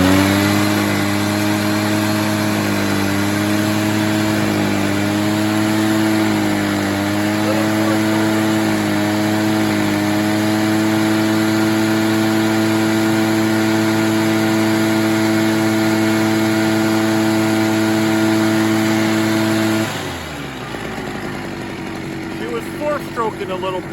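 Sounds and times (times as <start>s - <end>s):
leaf blower engine running: 0.0s - 23.9s.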